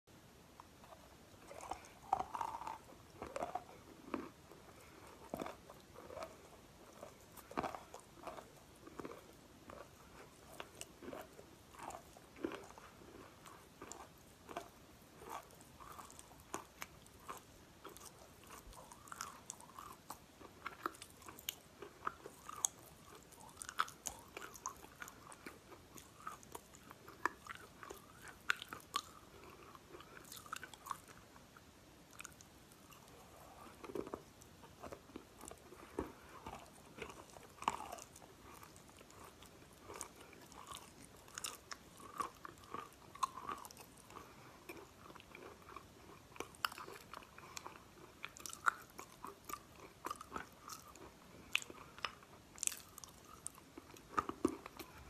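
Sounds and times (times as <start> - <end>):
person chewing chalk crunches: 0.8 - 31.3, 32.1 - 55.0.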